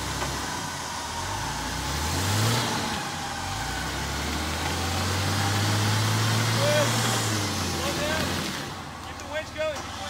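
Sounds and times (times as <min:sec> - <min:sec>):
truck engine revving under load: 0:00.0 - 0:10.0.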